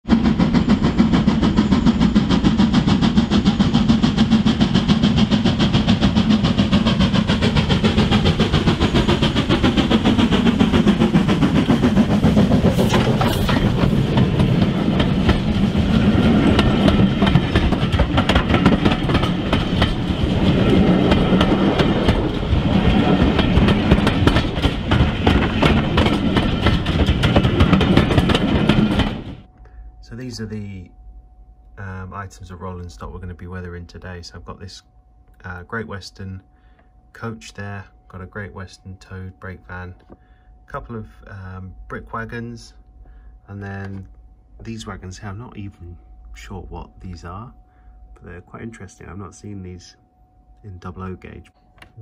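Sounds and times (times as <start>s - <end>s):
steady low hum: 0.1s - 52.0s.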